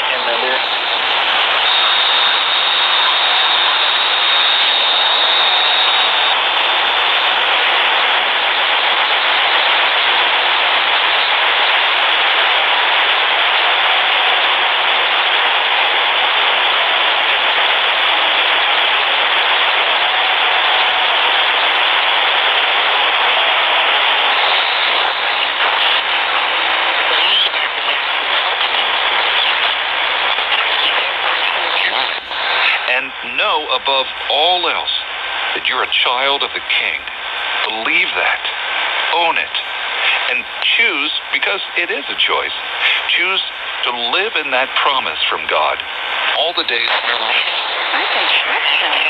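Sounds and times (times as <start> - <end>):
radio static hiss: 0.0 - 49.0.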